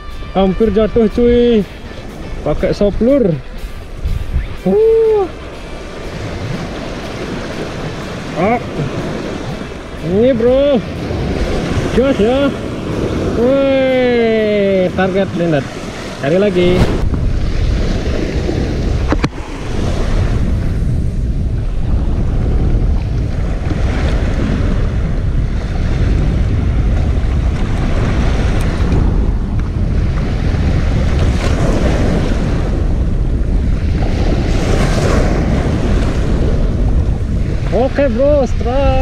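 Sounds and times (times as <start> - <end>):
surf washing on rocky shore: 0.0 - 39.0
wind buffeting microphone: 0.0 - 39.0.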